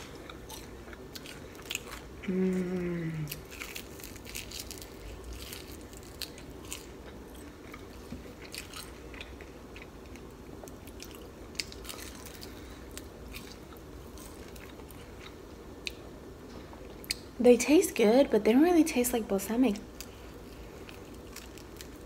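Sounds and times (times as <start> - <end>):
chewing crispy food: 0.0 - 17.4, 19.7 - 22.0.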